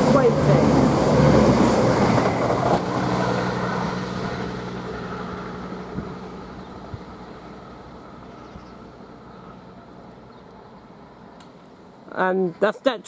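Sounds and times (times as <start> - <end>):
diesel train engine hum: 0.0 - 13.0.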